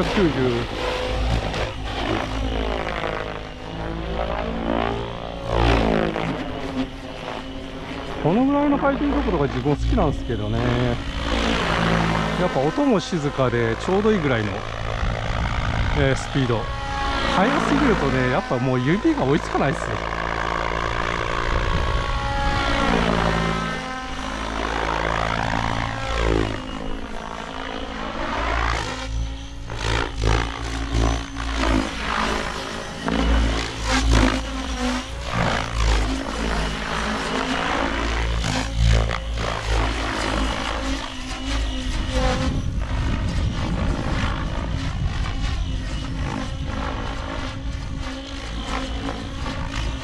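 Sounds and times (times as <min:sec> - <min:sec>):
rc helicopter rotor whine: 0:00.0 - 0:50.0.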